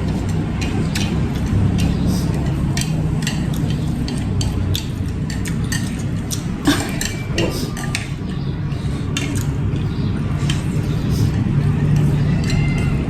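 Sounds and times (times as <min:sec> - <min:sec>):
steady low hum: 0:00.0 - 0:13.0
chopsticks clicking on a dish: 0:00.1 - 0:13.0.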